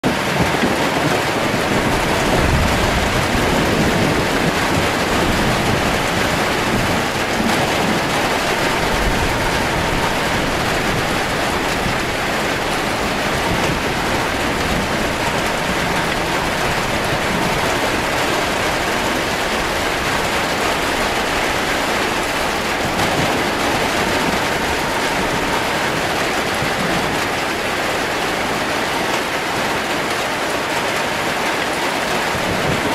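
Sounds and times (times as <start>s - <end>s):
low rumbling thunder: 0.0s - 31.1s, 31.7s - 32.9s
heavy rain on a metal roof: 0.0s - 32.9s.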